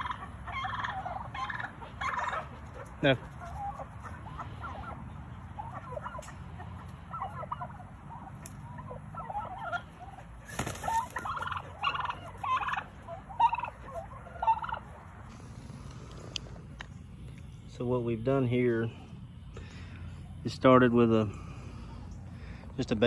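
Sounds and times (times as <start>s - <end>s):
turkeys calling: 0.0s - 22.9s.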